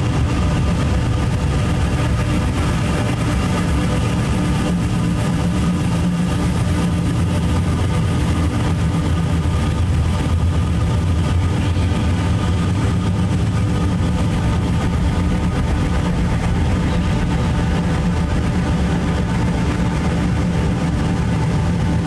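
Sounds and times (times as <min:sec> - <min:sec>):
dark ambient drone music: 0:00.0 - 0:22.0.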